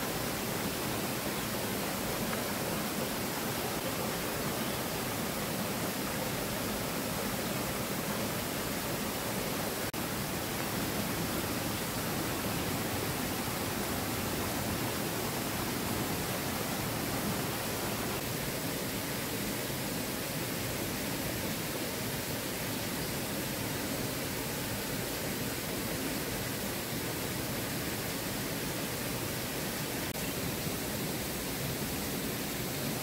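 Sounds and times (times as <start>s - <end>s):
waterfall cascading over rocks: 0.0s - 33.0s.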